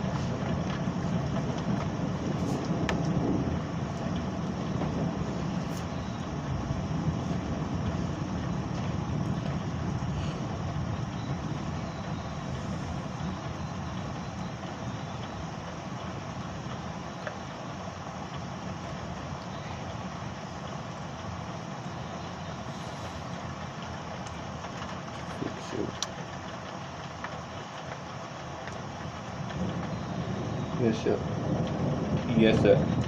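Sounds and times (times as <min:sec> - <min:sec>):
thunder rumbling: 0:00.0 - 0:33.0.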